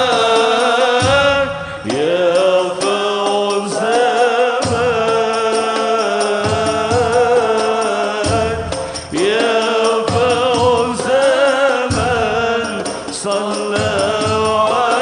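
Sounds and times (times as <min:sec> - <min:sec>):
light percussion beat: 0:00.0 - 0:15.0
man singing melismatic notes: 0:00.0 - 0:15.0
musical accompaniment: 0:00.0 - 0:15.0.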